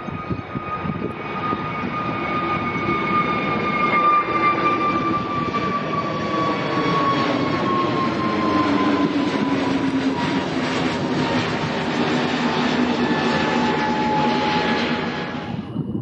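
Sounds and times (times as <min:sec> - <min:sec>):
jet airliner engines rumbling: 0:00.0 - 0:16.0.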